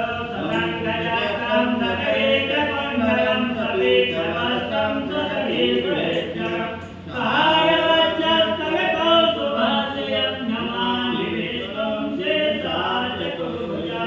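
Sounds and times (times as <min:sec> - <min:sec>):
priest chanting mantras: 0:00.0 - 0:14.0.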